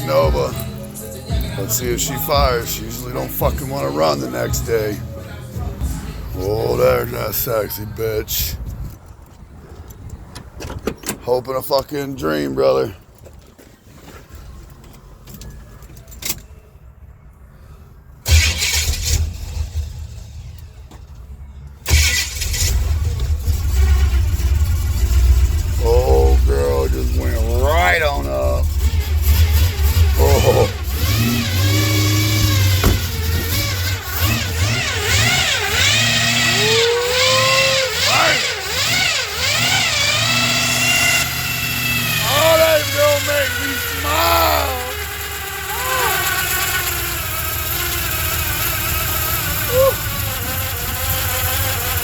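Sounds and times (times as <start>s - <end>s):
car engine idling and revving: 0.0s - 11.1s, 18.0s - 52.0s.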